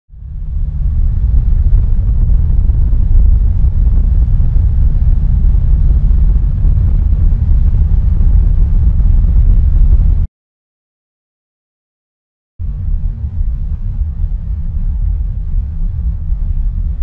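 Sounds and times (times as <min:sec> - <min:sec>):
wind buffeting microphone: 0:00.2 - 0:10.3, 0:12.6 - 0:17.0.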